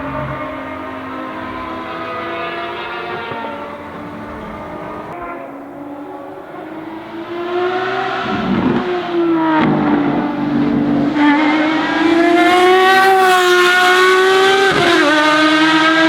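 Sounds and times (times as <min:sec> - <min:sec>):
car accelerating toward microphone: 0:00.0 - 0:16.0
race car engine passing: 0:00.0 - 0:16.0.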